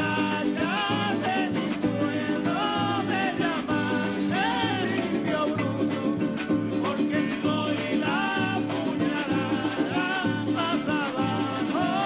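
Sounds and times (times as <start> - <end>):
man singing: 0.0 - 12.0
strummed small guitar: 0.0 - 12.0
wooden drum beats: 0.0 - 12.0.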